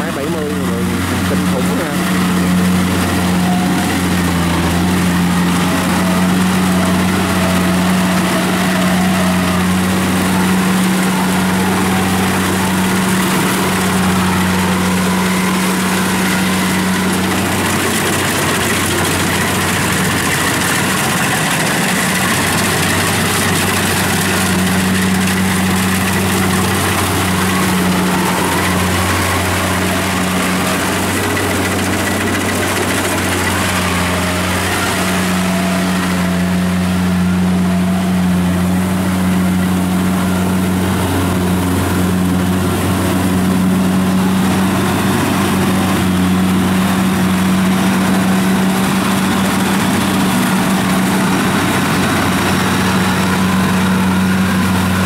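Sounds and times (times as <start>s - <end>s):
combine harvester engine droning: 0.0s - 55.0s
working machinery noise: 0.0s - 55.0s.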